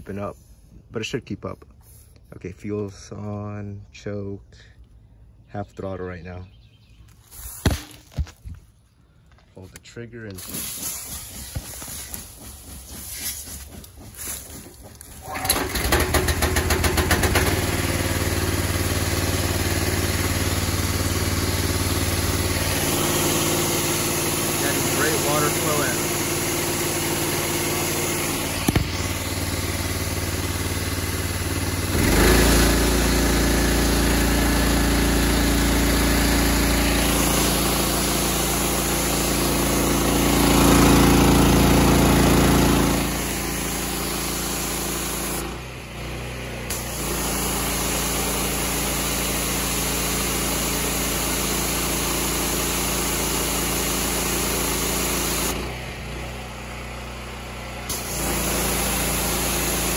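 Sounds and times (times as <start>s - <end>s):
pressure washer engine running: 10.2s - 59.9s.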